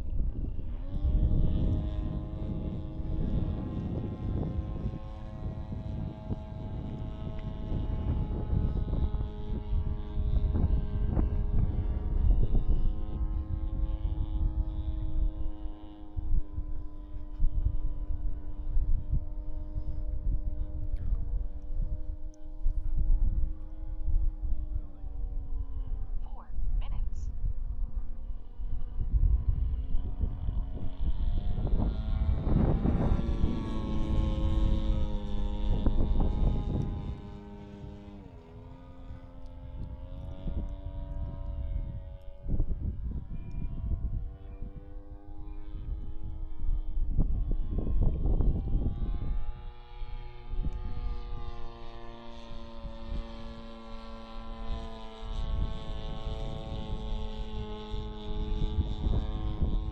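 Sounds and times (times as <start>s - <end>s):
model airplane engine: 0.0s - 59.9s
wind rumble on microphone: 0.0s - 59.9s.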